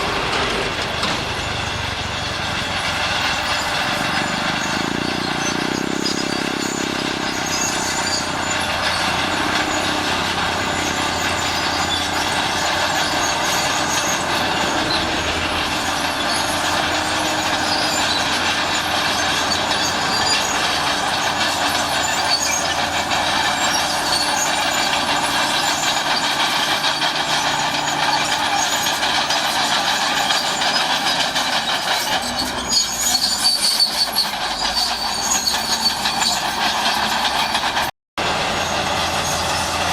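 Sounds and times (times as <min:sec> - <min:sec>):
diesel engine under load: 0:00.0 - 0:39.9
steel tracks clattering and squealing: 0:00.0 - 0:39.9.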